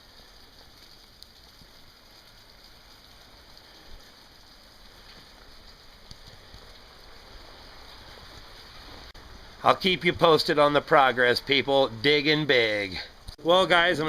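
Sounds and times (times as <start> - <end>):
light rain patter: 0.0 - 14.0.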